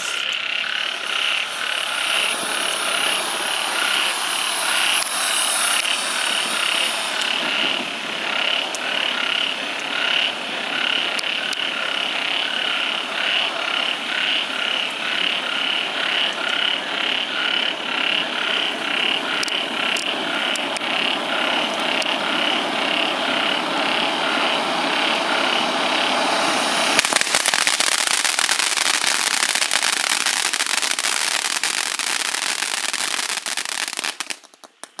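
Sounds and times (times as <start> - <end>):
firework hissing and whistling: 0.0 - 16.4, 17.9 - 35.0
firework crackling hiss: 0.0 - 35.0.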